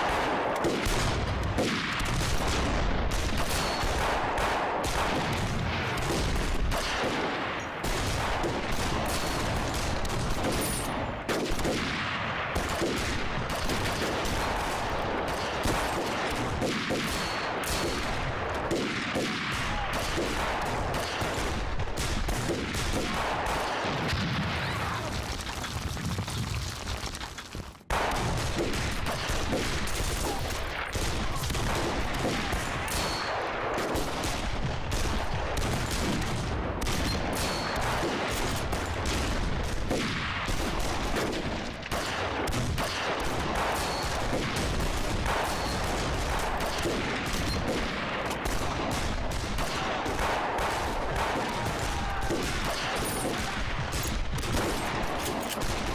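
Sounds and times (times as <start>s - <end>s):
heavy gunfire: 0.0s - 25.4s, 27.9s - 55.9s.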